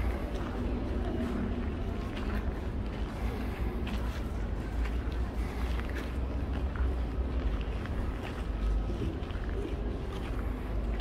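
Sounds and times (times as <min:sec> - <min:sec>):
background traffic rumble: 0:00.0 - 0:11.0.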